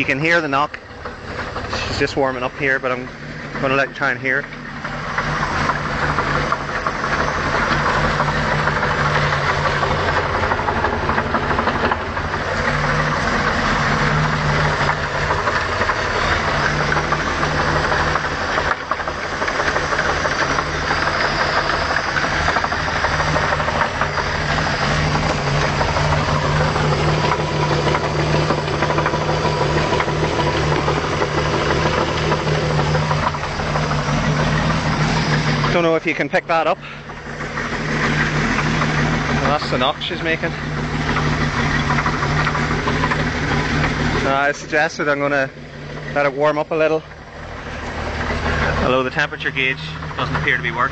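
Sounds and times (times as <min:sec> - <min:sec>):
boat engine idling with knock: 0:00.0 - 0:50.9.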